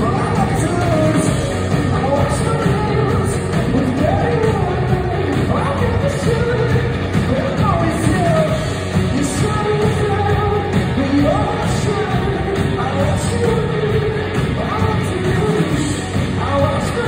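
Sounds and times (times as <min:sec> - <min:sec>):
bass guitar: 0:00.0 - 0:17.0
drum kit: 0:00.0 - 0:17.0
electric guitars: 0:00.0 - 0:17.0
person singing: 0:00.0 - 0:17.0.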